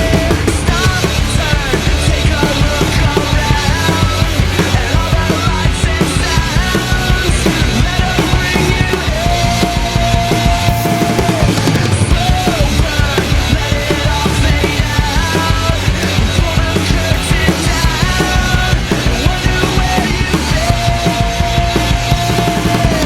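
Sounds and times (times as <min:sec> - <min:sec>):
drum kit beat: 0:00.0 - 0:23.0
pop-punk rock song: 0:00.0 - 0:23.0.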